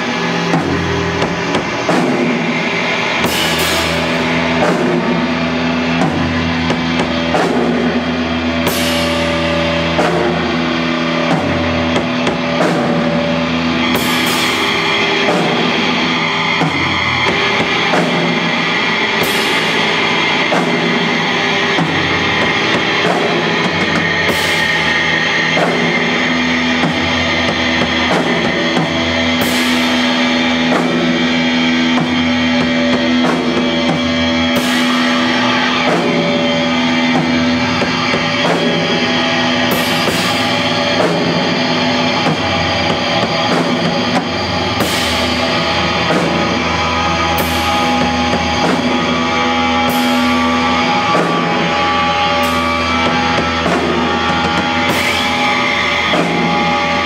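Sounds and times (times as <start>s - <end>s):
cymbal crash: 0.0s - 57.0s
drum kit playing: 0.0s - 57.0s.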